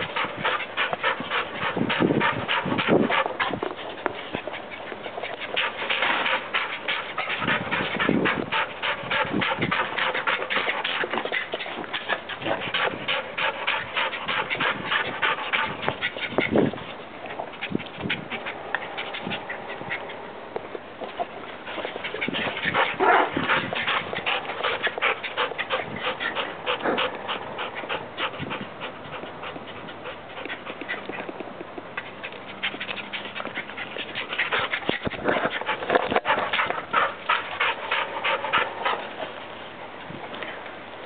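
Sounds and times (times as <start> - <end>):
dog panting: 0.0 - 20.3, 21.0 - 40.5.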